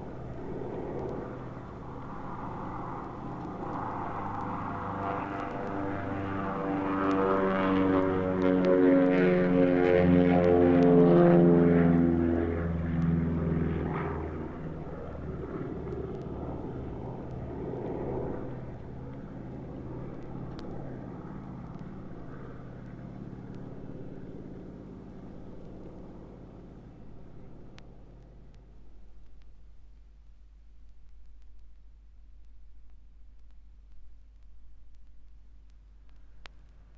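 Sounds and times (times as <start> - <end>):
propeller aircraft engines droning: 0.0 - 36.9.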